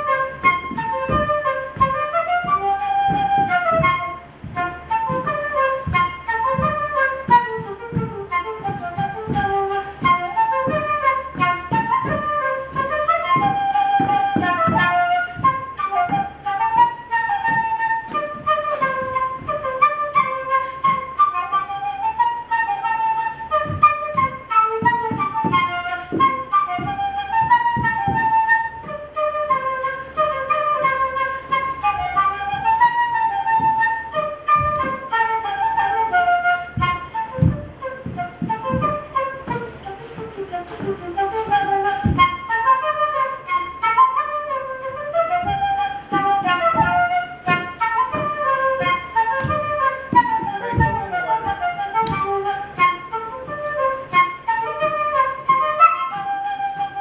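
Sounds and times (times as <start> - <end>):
whistle melody: 0.0 - 57.0.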